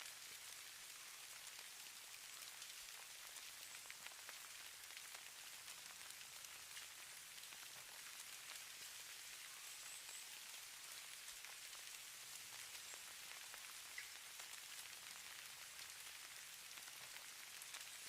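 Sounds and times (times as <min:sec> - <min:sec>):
snow falling hiss: 0:00.0 - 0:18.0.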